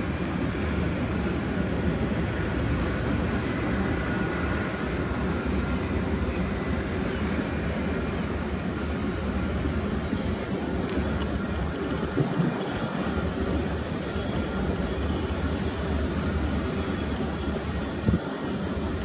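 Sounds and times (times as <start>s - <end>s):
distant freight train rumbling: 0.0s - 19.0s.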